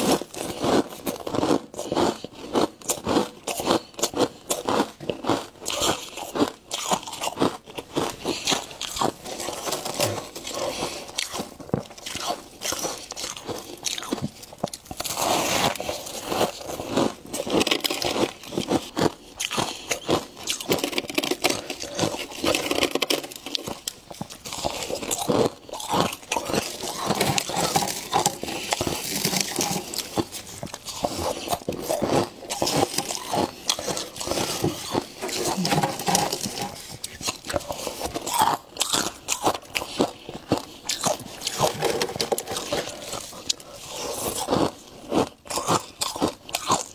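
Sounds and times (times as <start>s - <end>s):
person chewing ice: 0.0s - 46.9s.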